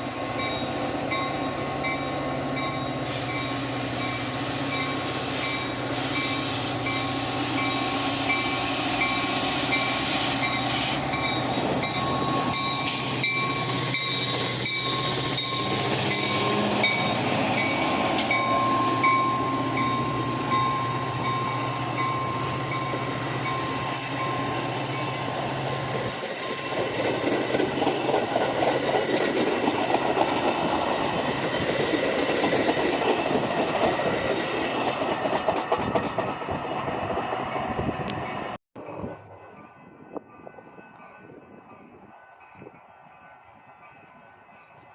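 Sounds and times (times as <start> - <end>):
train low drone: 0.0 - 44.9
railcar wheels clattering on track: 0.3 - 42.8.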